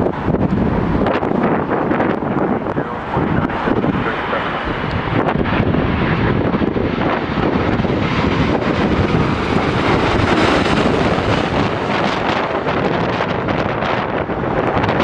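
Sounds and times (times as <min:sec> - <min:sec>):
jet airliner engine noise: 0:00.0 - 0:15.0
wind buffeting microphone: 0:00.0 - 0:15.0.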